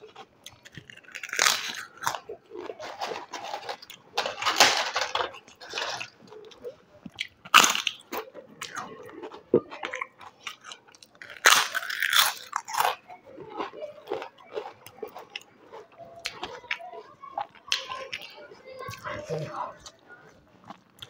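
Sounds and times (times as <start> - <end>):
person chewing crunchy food: 0.0 - 18.3, 18.9 - 21.0.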